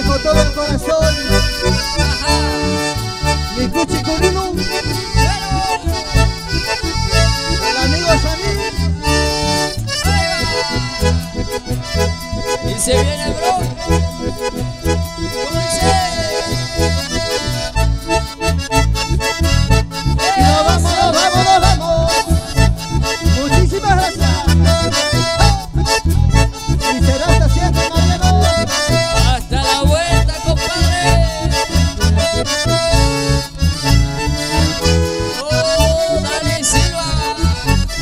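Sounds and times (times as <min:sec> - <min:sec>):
bandoneon melody: 0:00.0 - 0:38.0
electric bass: 0:00.0 - 0:38.0
guitar: 0:00.0 - 0:38.0
piano accordion melody: 0:00.0 - 0:38.0.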